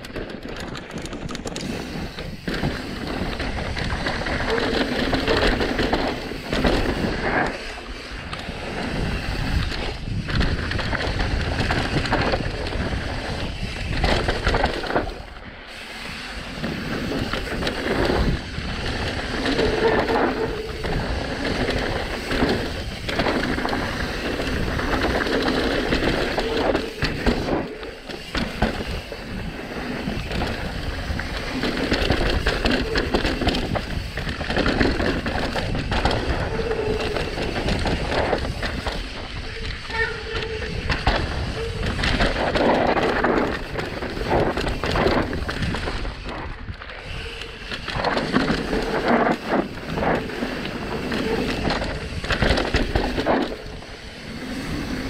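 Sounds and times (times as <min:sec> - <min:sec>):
bike rattles and knocks: 0:00.0 - 0:55.0
wind noise on microphone: 0:00.0 - 0:55.0
tyres rumbling over dirt and rock: 0:08.4 - 0:15.4, 0:16.4 - 0:55.0.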